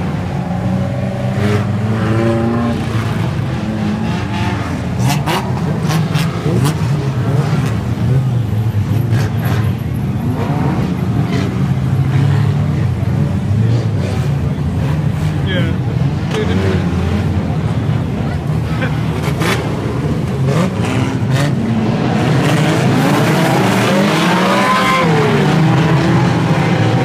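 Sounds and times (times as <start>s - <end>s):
racing car engines droning: 0.0s - 27.0s.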